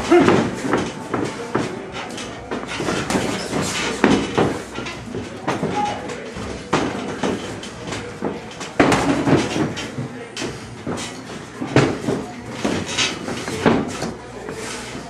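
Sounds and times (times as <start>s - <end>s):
boxing gloves thudding: 0.0s - 14.2s.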